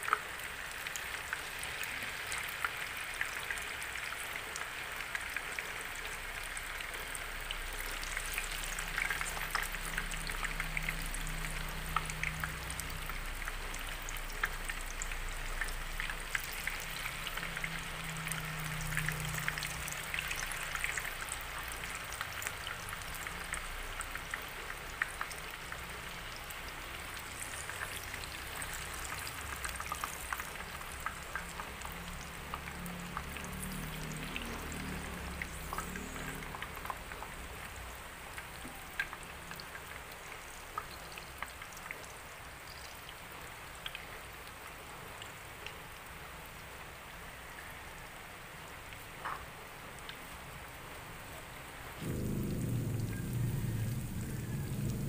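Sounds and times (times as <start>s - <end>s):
tofu sizzling in oil: 0.0s - 55.0s.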